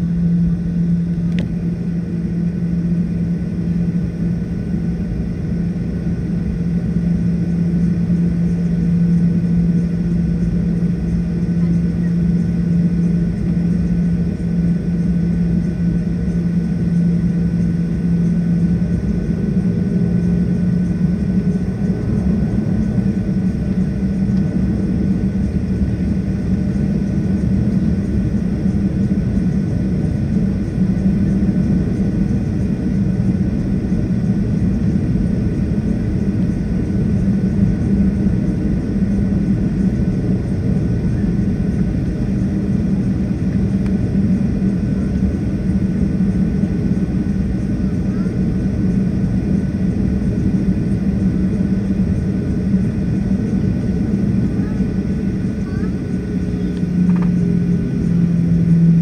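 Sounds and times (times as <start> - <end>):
jet engine drone from cabin: 0.0 - 59.0.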